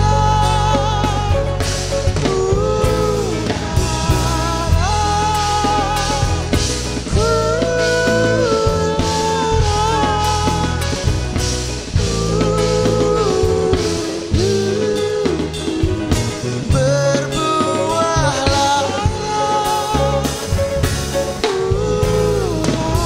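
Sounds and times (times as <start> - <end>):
acoustic guitar: 0.0 - 23.0
bass line: 0.0 - 23.0
drums: 0.0 - 23.0
man singing: 0.0 - 23.0.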